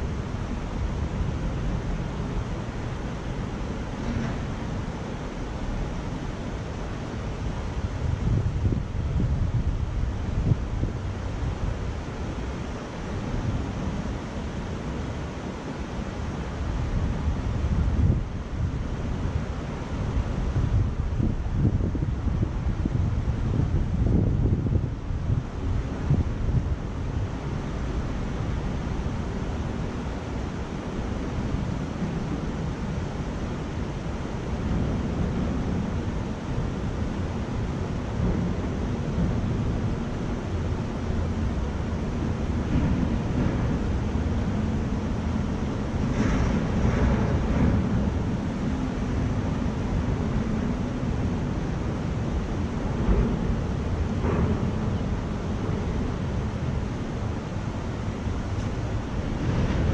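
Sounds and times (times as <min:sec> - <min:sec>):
wind buffeting microphone: 0:06.2 - 0:14.4, 0:16.6 - 0:59.9.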